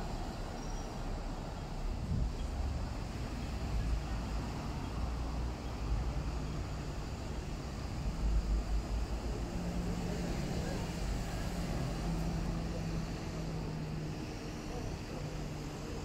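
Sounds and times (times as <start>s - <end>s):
engine hum: 0.0s - 16.0s
street traffic rumble: 0.0s - 16.0s.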